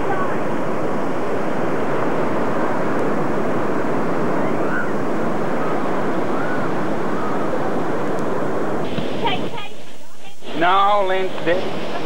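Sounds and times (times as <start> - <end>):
ocean surf on rocks: 0.0 - 12.0.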